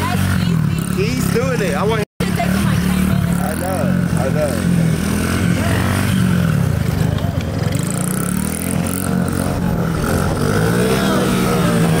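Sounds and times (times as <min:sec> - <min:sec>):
crowd voices: 0:00.0 - 0:12.0
dirt bike engine revving: 0:00.0 - 0:12.0.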